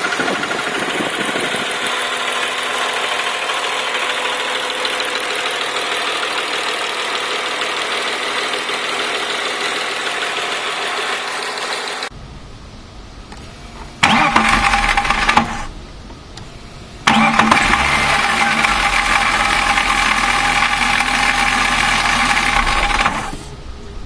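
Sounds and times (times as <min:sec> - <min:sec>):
starter motor whining and grinding: 0:00.0 - 0:12.1, 0:13.3 - 0:15.7, 0:16.4 - 0:23.5
low engine rumble: 0:00.0 - 0:24.0.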